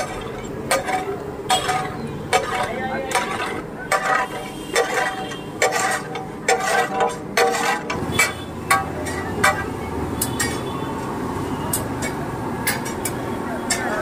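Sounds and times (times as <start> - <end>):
metal utensil clanking on griddle: 0.0 - 10.7, 11.8 - 14.0.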